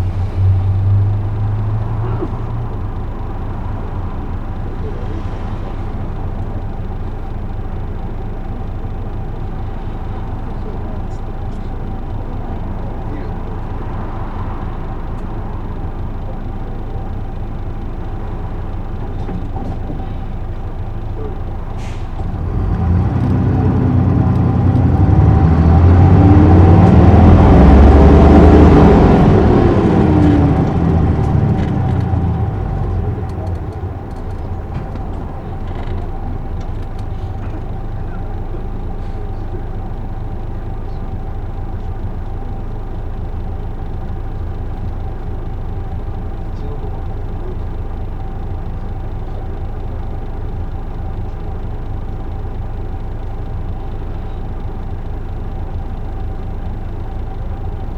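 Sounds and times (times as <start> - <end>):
bus diesel engine: 0.0 - 57.9.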